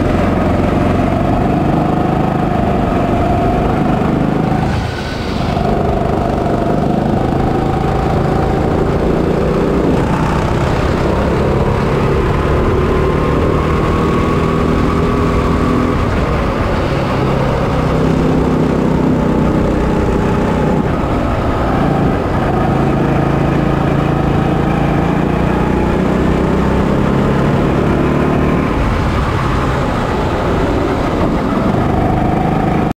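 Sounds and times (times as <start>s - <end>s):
kart engine revving: 0.0s - 32.9s.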